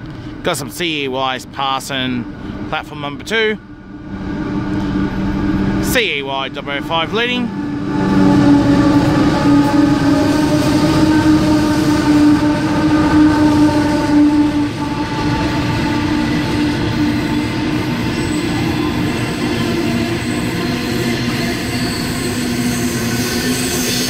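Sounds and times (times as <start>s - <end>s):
diesel locomotive engines droning: 0.0s - 24.0s
wagons rumbling on rails: 0.0s - 24.0s.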